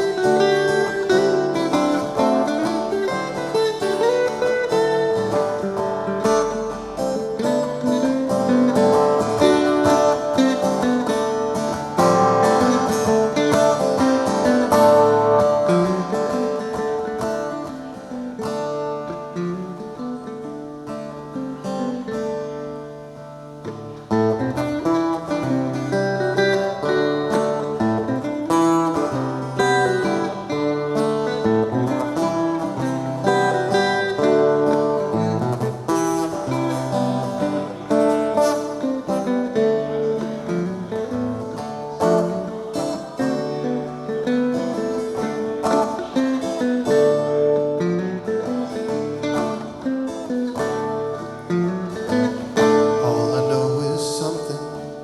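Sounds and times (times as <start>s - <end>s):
guitar picked notes and strummed chords: 0.0s - 55.0s.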